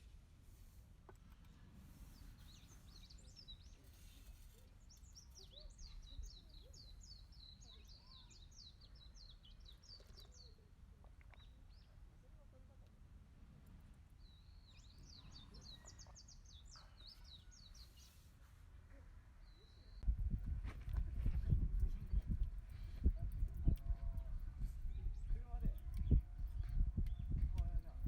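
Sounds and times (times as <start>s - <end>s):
songbirds calling faintly: 0.0s - 28.0s.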